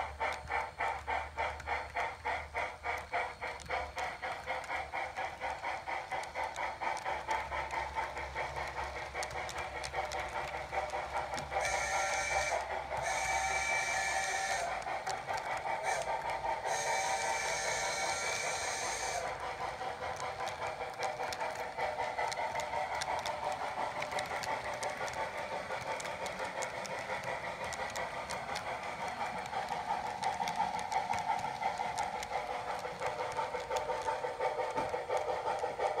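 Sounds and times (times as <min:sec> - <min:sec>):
model train running: 0:00.0 - 0:36.0
wheels clicking over rail joints: 0:00.0 - 0:36.0.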